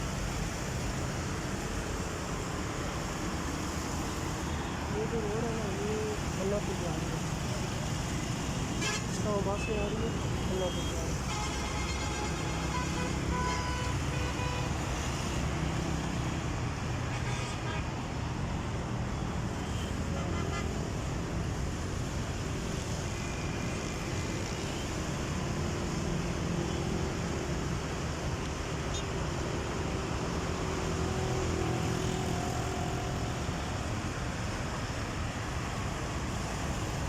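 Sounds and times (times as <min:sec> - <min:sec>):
highway traffic passing: 0:00.0 - 0:37.0.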